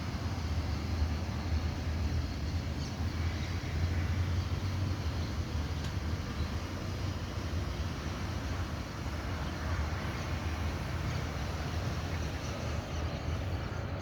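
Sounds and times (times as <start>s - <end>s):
steady rain hiss: 0.0s - 13.8s.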